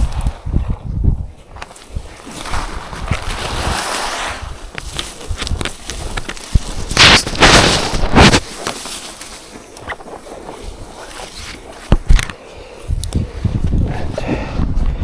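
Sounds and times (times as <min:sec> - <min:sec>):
wind buffeting microphone: 0:00.0 - 0:08.4, 0:10.4 - 0:15.0
vegetation rustling: 0:00.0 - 0:13.4.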